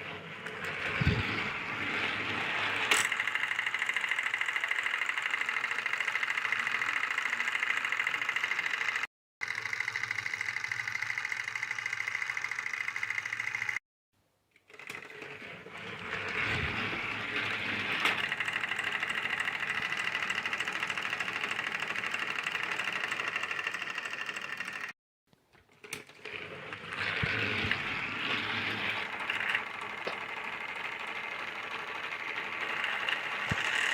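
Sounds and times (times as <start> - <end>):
toy train motor whirring: 0.0 - 13.8, 14.6 - 25.0, 25.8 - 33.9.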